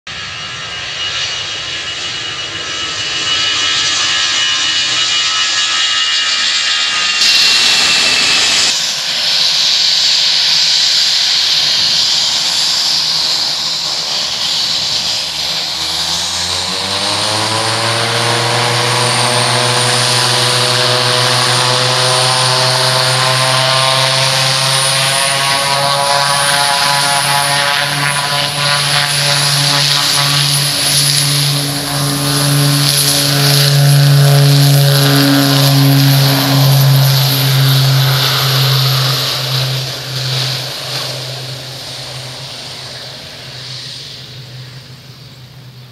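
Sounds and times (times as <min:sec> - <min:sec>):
propeller engines droning: 0:00.1 - 0:45.9
thin high whine: 0:00.6 - 0:15.8, 0:21.5 - 0:45.8.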